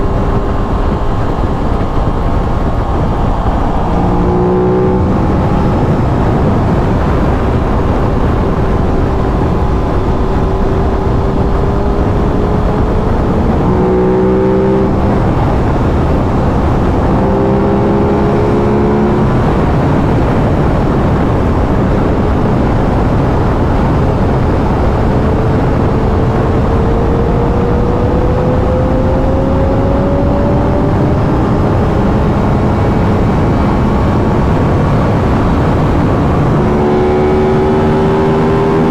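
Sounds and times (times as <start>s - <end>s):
motorcycle engine at speed: 0.0s - 38.9s
wind rush on microphone: 0.0s - 38.9s.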